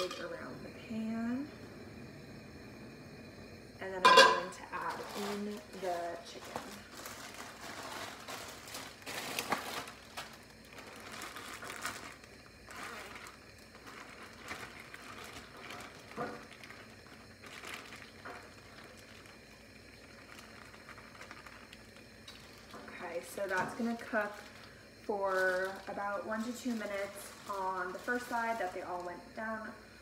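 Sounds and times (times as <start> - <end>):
plastic bag crinkling: 4.7 - 29.1.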